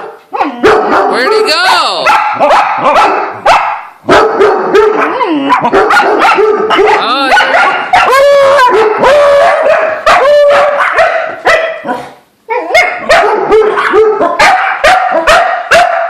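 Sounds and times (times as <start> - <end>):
dogs barking: 0.0 - 16.0.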